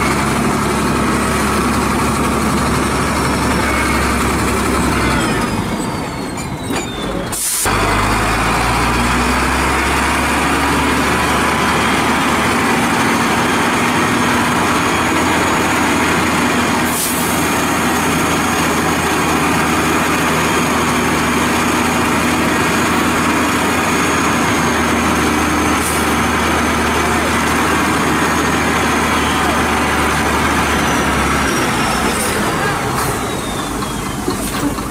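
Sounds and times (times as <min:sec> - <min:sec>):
truck diesel engine under load: 0:00.0 - 0:34.9.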